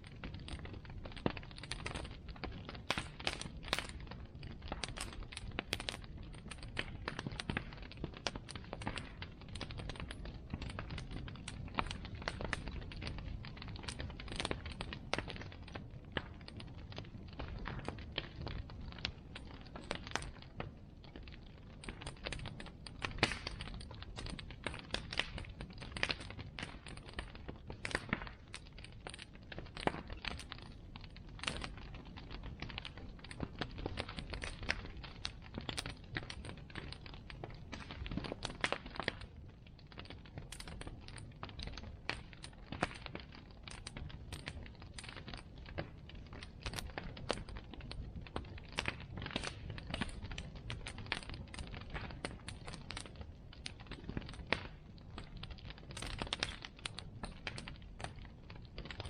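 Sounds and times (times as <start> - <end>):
bonfire crackling: 0.0 - 59.0.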